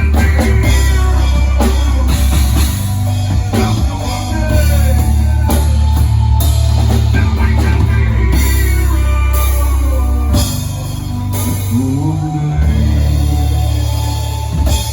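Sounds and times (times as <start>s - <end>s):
heavy metal band playing live: 0.0s - 14.9s
pounding drum kit: 0.0s - 14.9s.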